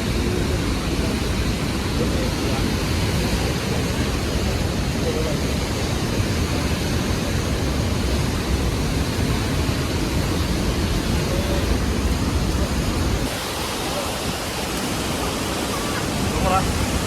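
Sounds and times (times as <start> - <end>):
low buffeting rumble: 0.0 - 17.0
whitewater rushing: 0.0 - 17.0.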